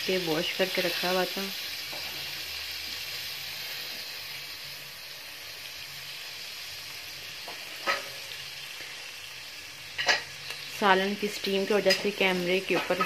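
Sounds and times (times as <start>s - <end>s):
minced meat sizzling in oil: 0.0s - 13.0s.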